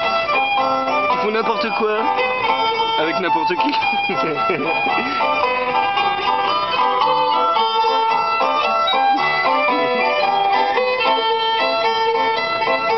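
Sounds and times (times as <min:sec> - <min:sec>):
instrumental music with busy melody: 0:00.0 - 0:12.9.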